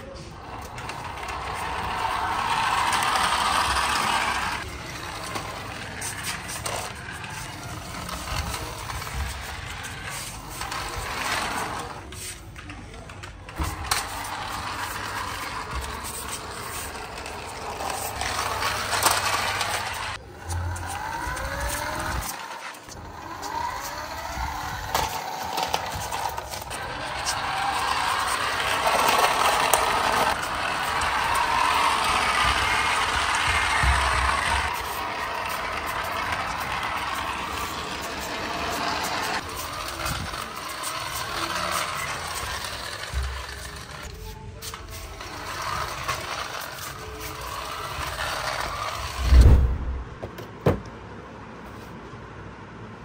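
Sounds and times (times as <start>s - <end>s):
toy car motor whirring: 0.0s - 49.4s
plastic wheels rolling on concrete: 0.0s - 49.5s.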